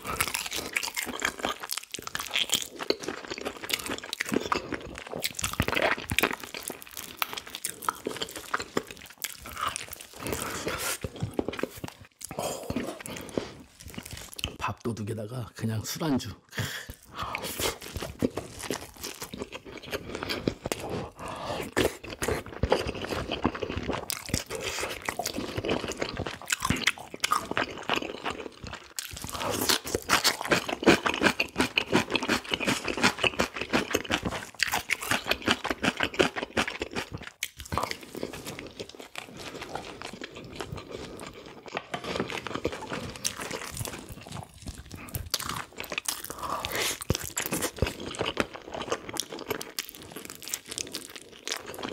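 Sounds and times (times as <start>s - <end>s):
crunchy biting and chewing: 0.0s - 14.6s, 16.9s - 51.9s.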